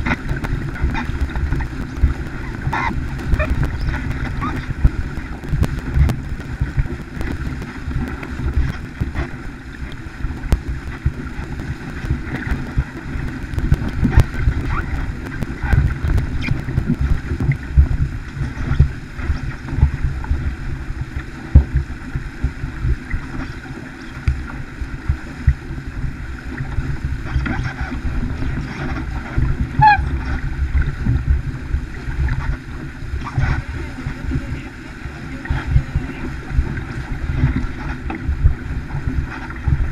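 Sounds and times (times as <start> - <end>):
water splashing along hull: 0.0 - 39.9
wind buffeting microphone: 0.0 - 39.9.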